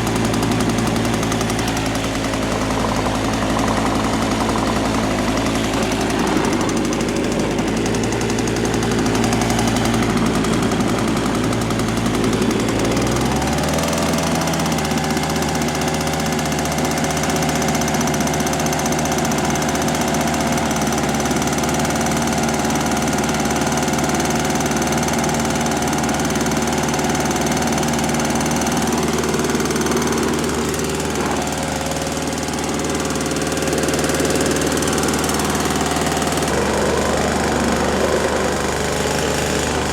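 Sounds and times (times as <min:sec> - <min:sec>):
snow thrower engine running: 0:00.0 - 0:39.9.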